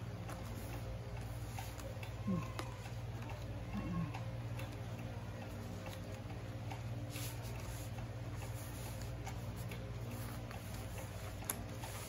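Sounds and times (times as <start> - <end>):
paper rustling and ticking: 0.0 - 12.0
steady low hum: 0.0 - 12.0.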